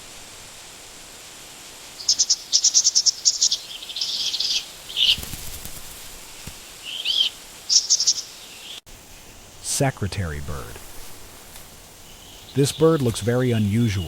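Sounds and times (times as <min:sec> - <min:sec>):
faint steady hiss: 0:00.0 - 0:14.0
songbird chirping: 0:00.0 - 0:14.0.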